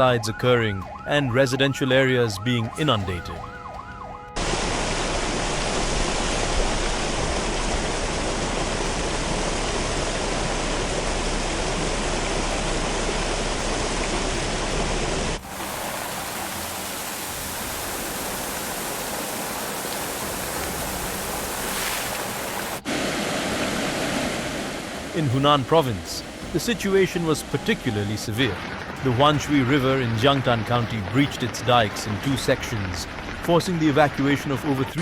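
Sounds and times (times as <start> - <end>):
floodwater rushing: 4.4 - 35.0.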